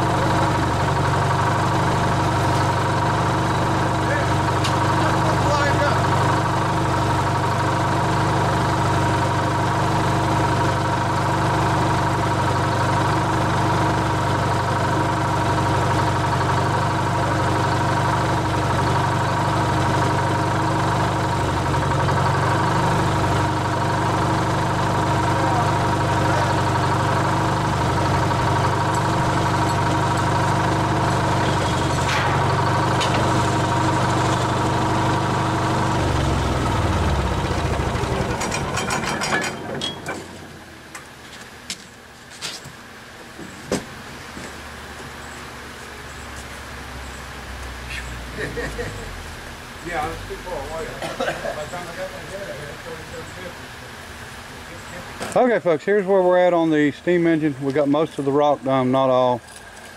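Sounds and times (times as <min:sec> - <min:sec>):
crane engine idling: 0:00.0 - 0:59.9.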